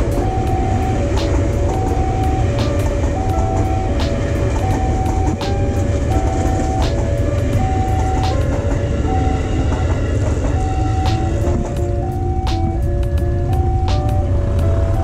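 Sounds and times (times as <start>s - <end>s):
electric train passing: 0.0s - 15.0s
two-tone crossing alarm: 0.0s - 15.0s
wheels clacking over rail joints: 0.0s - 15.0s.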